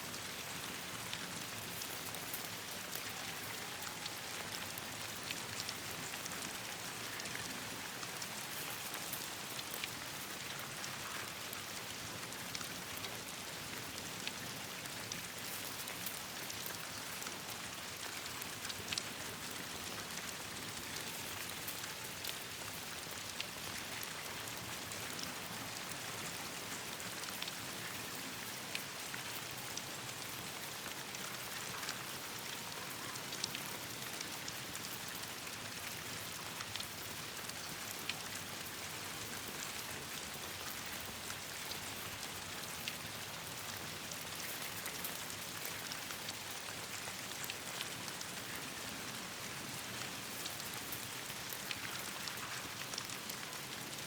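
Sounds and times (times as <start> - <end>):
sharp ticks of raindrops: 0.0 - 54.0
steady rain on leaves: 0.0 - 54.0.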